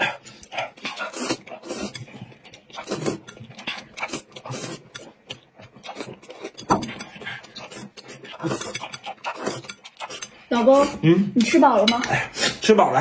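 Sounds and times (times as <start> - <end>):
slurping and chewing food: 0.0 - 12.8.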